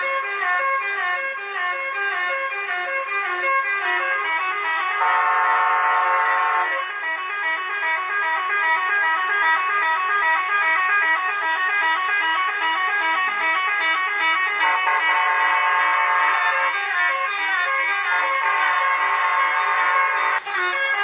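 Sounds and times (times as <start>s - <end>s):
musical air horn playing a tune: 0.0s - 21.0s.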